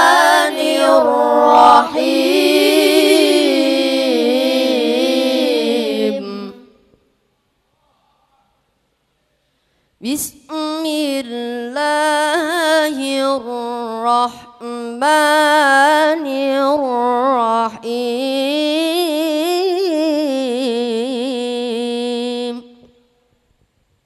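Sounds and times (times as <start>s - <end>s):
boy chanting into a microphone: 0.0s - 6.7s, 10.0s - 22.8s.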